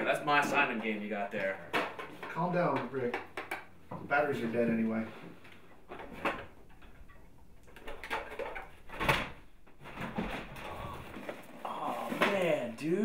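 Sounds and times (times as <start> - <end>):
toys knocking and rattling: 0.4 - 4.1, 5.8 - 12.7.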